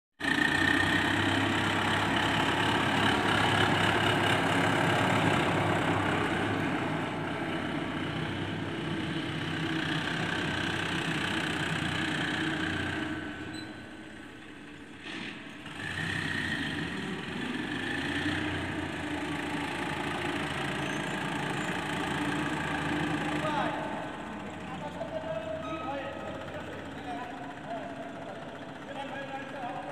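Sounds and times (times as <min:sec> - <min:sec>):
tractor diesel engine running: 0:00.2 - 0:29.9.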